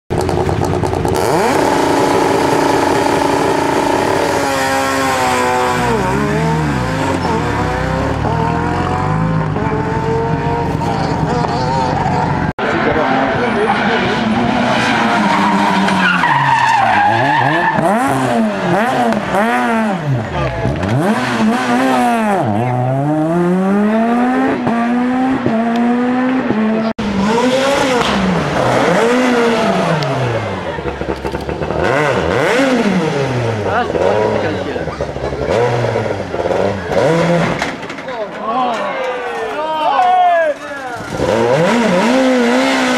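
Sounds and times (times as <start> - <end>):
rally car engine revving: 0.1 - 38.1, 40.8 - 42.9.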